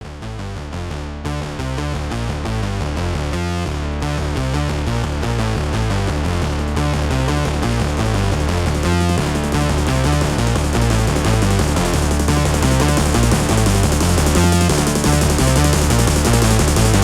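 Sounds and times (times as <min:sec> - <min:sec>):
electronic synthesizer music with beat: 0:00.4 - 0:17.0.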